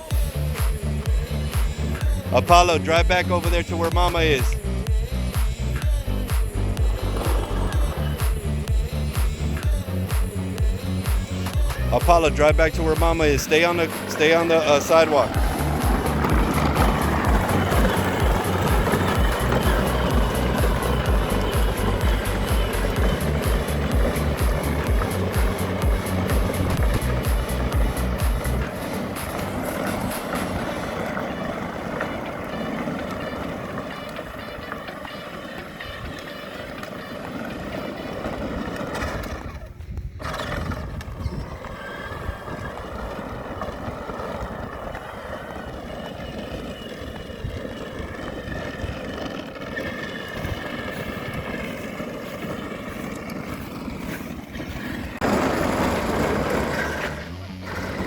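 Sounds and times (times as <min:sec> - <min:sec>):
electric motors whining: 0:00.0 - 0:58.0
plastic wheels rumbling on pavement: 0:00.0 - 0:58.0.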